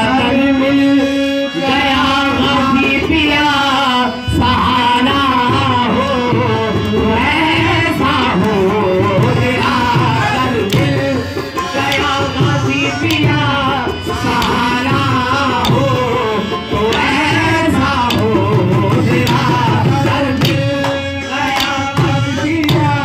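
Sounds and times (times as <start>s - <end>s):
devotional singing: 0.0s - 23.0s.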